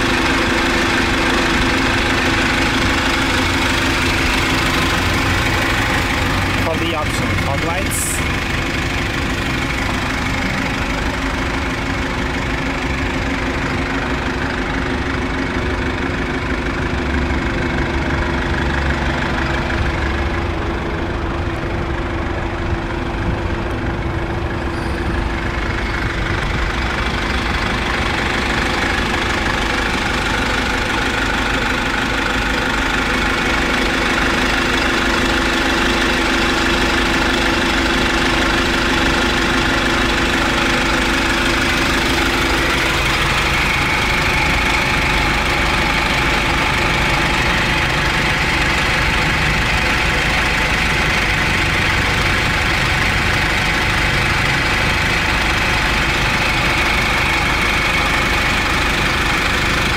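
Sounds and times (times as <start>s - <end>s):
bus engine idling: 0.0s - 59.9s.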